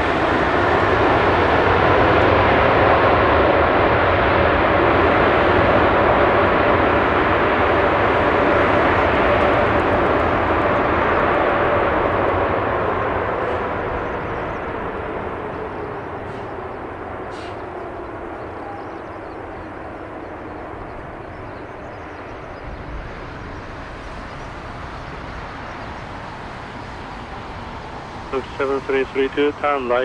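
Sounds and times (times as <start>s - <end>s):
jet engines spooling down: 0.0s - 30.0s.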